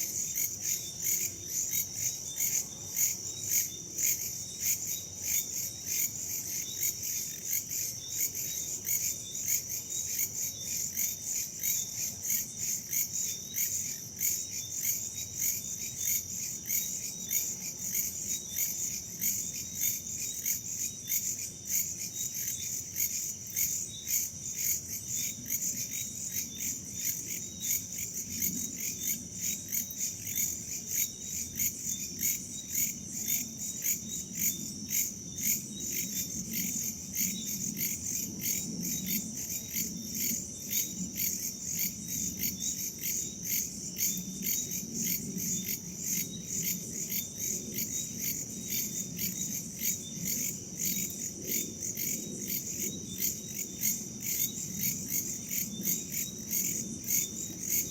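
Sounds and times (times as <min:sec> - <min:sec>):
crickets and insects chirping: 0:00.0 - 0:57.9.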